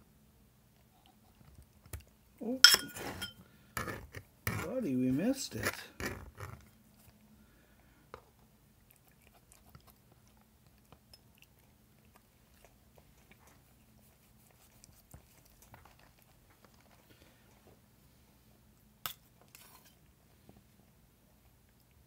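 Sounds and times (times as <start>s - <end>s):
cat chewing food: 0.6s - 2.4s, 5.7s - 22.0s.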